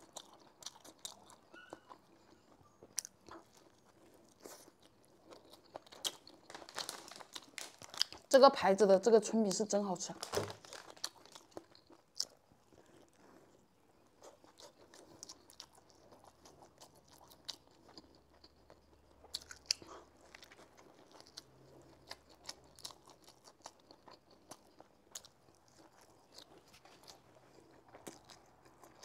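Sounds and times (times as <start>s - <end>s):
person chewing: 0.0s - 8.3s, 10.2s - 29.0s.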